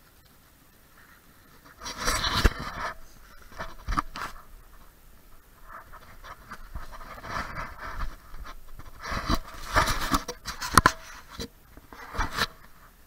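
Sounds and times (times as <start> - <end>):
rustling through dry branches and leaves: 0.4 - 13.0.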